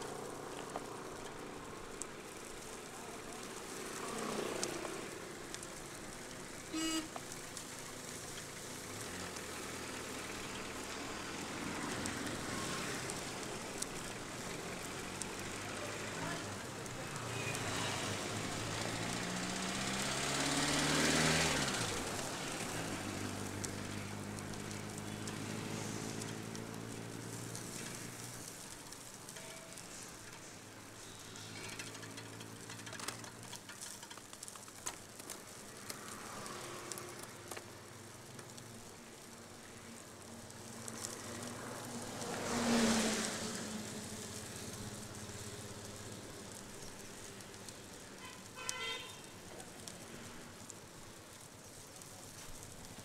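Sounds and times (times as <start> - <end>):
scattered ticks: 0.0 - 19.2, 21.6 - 53.0
rain: 0.0 - 53.0
vehicle engines passing: 0.0 - 53.0
wet tyres hissing: 0.0 - 53.0.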